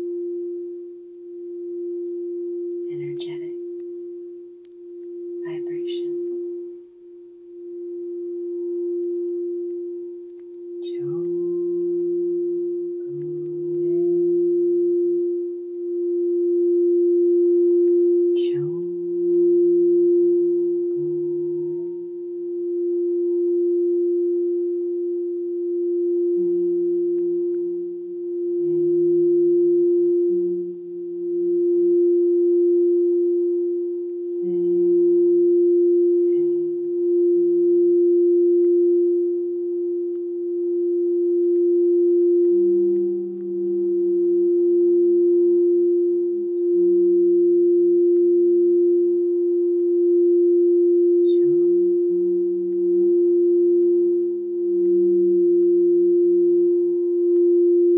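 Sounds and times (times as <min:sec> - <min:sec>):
crystal singing bowl tone: 0:00.0 - 0:57.9
lower tone in held notes: 0:00.0 - 0:57.9.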